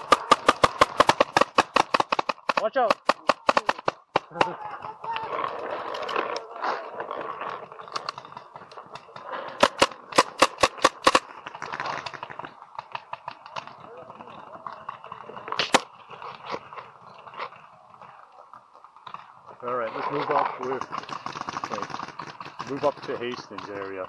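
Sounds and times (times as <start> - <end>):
paintball markers firing: 0.0 - 17.5, 20.2 - 24.0.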